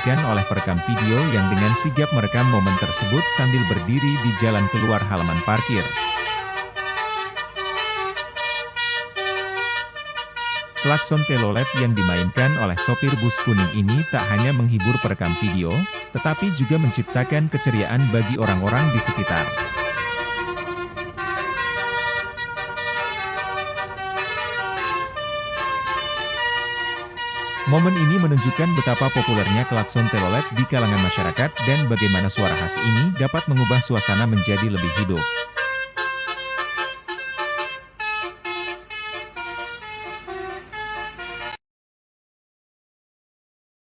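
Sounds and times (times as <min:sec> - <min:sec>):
musical air horn playing a tune: 0:00.0 - 0:41.6.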